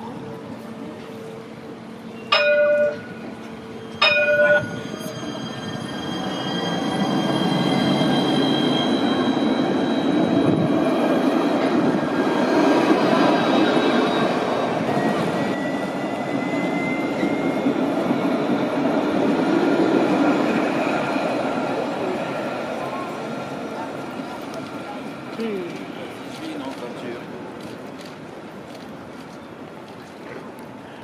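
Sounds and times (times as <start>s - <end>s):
tram rolling on rails: 0.0s - 31.0s
tram warning tones: 0.0s - 31.0s.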